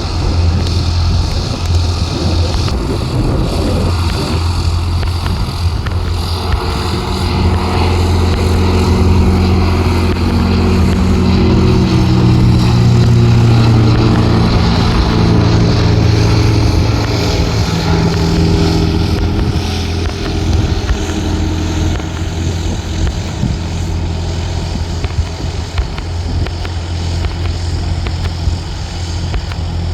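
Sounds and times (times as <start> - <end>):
propeller engine at climb power: 0.0 - 29.9.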